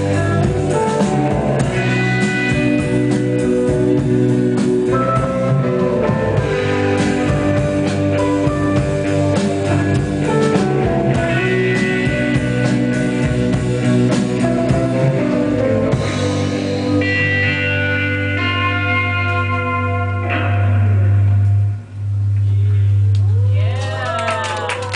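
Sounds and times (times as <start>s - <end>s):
rock band playing live: 0.0s - 22.9s
drum kit: 0.0s - 23.4s
electric guitar: 0.0s - 24.9s.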